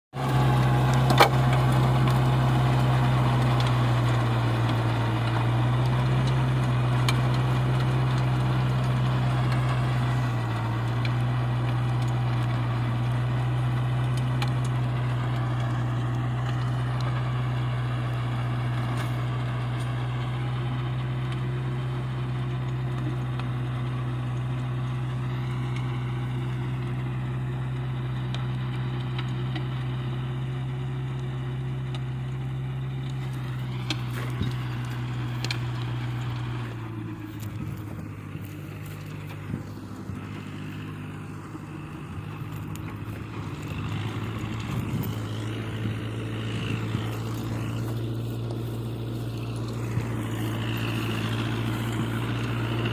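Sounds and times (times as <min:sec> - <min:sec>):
tractor engine running: 0:00.2 - 0:52.9.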